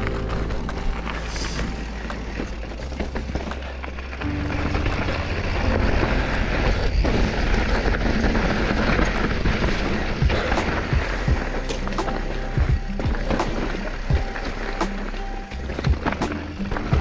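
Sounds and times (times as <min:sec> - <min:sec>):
bike tyres rattling over rocks: 0:00.0 - 0:17.0.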